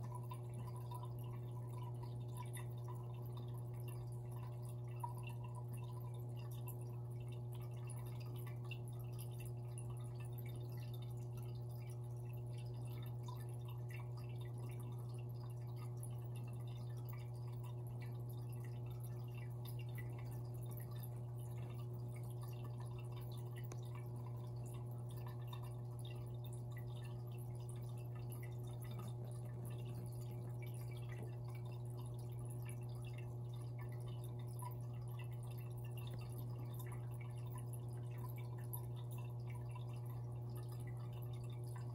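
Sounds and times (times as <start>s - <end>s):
low equipment hum: 0.0s - 41.9s
water dripping and trickling: 0.0s - 41.9s.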